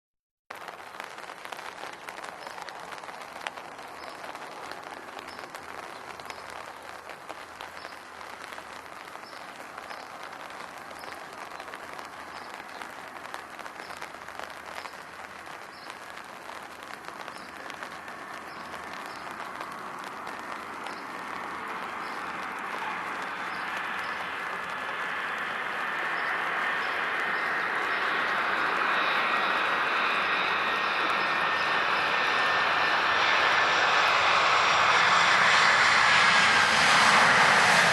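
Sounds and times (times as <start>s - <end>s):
rain and wind: 0.5s - 37.9s
airplane engine noise: 2.3s - 37.9s.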